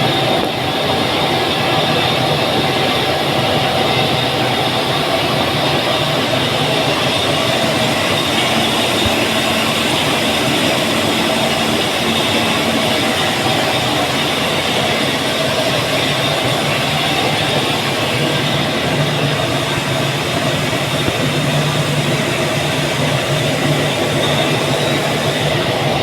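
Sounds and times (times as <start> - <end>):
industrial machinery din: 0.0 - 26.0
steady machine tones: 0.0 - 26.0.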